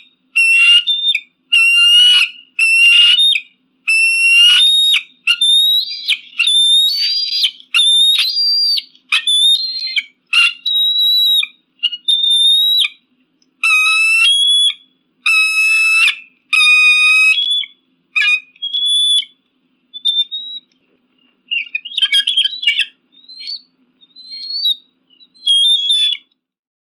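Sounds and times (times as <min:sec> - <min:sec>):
eagle whistled calls: 0:00.0 - 0:13.0, 0:13.6 - 0:26.3.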